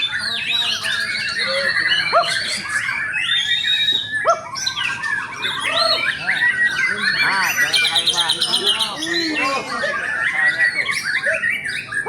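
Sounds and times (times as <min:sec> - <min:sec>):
bird singing varied song: 0:00.0 - 0:12.0.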